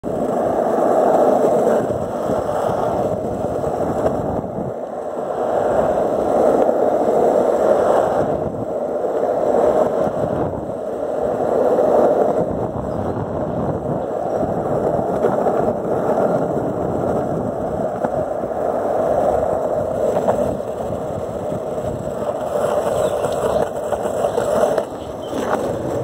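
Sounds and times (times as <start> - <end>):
wheels rolling over rough asphalt: 0.0 - 26.0.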